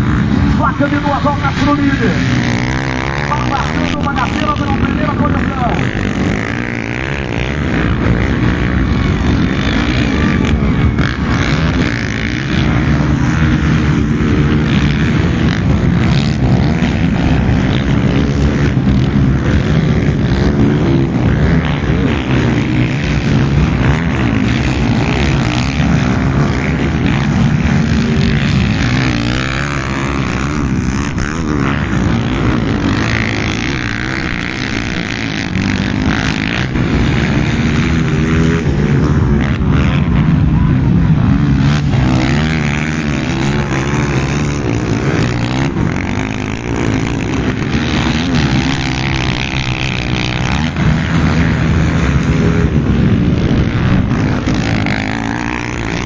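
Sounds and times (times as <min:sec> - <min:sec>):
motocross engines revving: 0:00.0 - 0:56.0.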